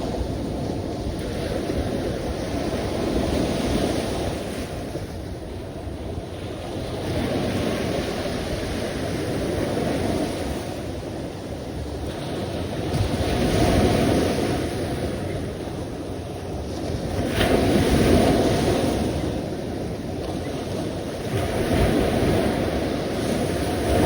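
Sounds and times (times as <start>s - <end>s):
waves washing in: 0.0s - 24.0s
wind rumble on microphone: 0.0s - 24.0s.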